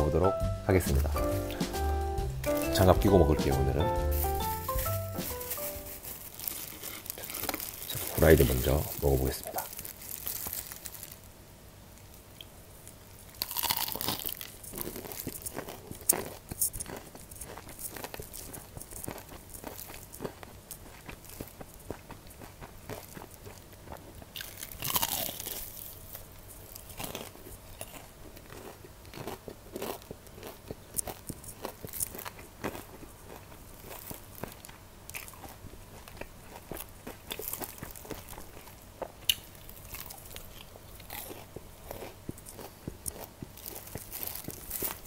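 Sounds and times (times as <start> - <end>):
close-up chewing: 4.2 - 11.2, 12.4 - 45.0
crunchy bites of fried chicken: 6.4 - 11.3, 12.4 - 45.0.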